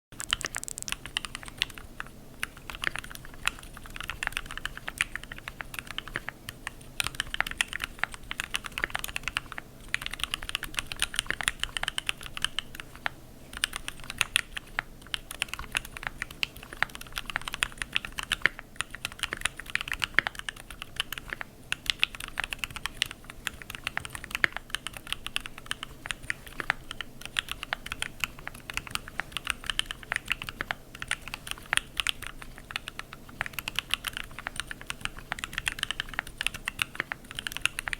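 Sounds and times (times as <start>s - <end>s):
typing on computer keyboard: 0.2s - 37.9s.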